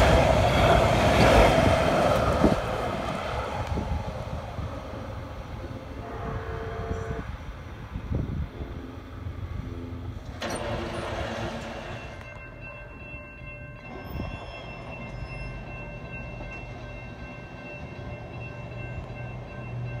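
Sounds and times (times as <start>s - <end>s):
light-rail train humming: 0.0s - 20.0s.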